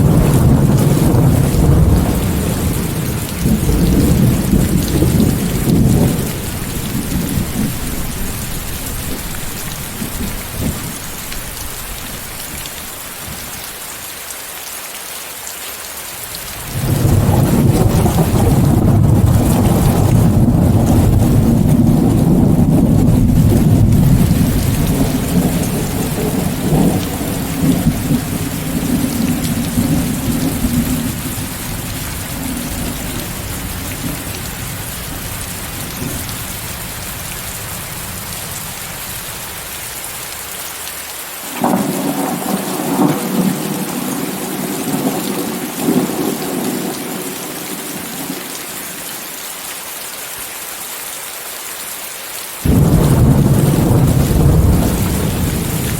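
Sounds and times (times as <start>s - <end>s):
rolling thunder: 0.0s - 12.5s, 16.7s - 39.2s, 41.6s - 48.4s, 52.6s - 55.9s
heavy rain: 0.0s - 55.9s.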